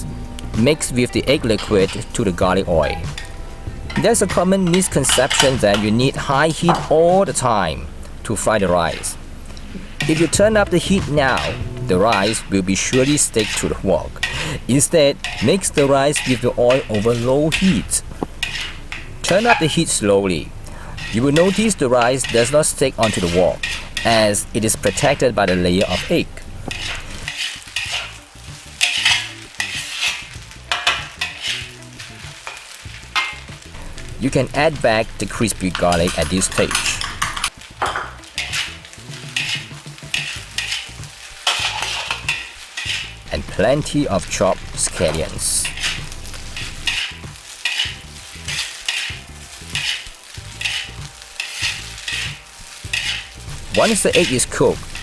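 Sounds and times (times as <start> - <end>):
rice sizzling in oil: 0.0 - 55.0
spatula scraping wok: 0.0 - 55.0.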